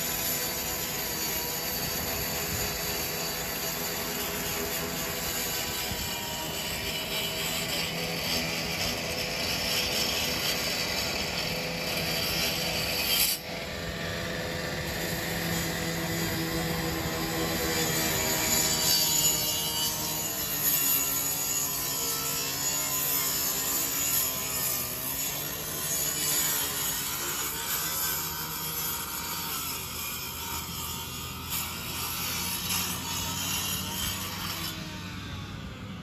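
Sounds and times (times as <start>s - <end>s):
cut-off saw grinding metal: 0.0s - 36.0s.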